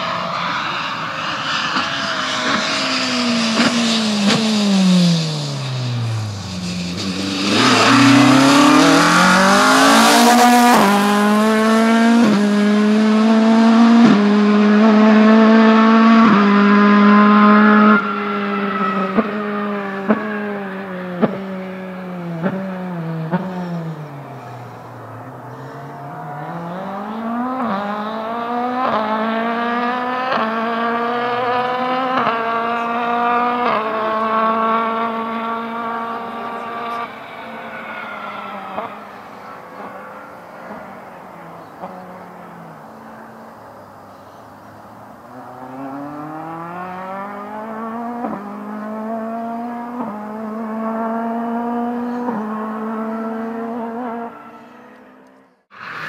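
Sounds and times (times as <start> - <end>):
rally car engine accelerating: 0.0 - 56.0.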